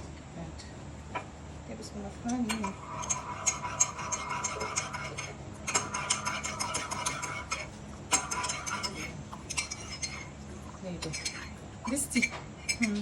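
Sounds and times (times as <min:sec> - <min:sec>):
metal spoon stirring in a cup: 0:02.3 - 0:13.0.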